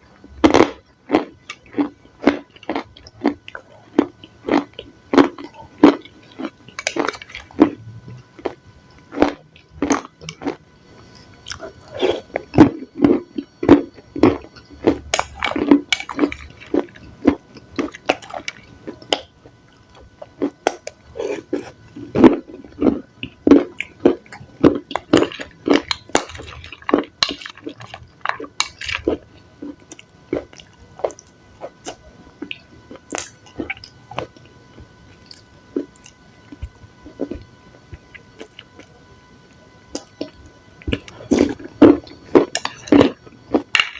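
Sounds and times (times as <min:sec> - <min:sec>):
chewing crunchy salad: 0:00.1 - 0:39.0, 0:39.9 - 0:43.9.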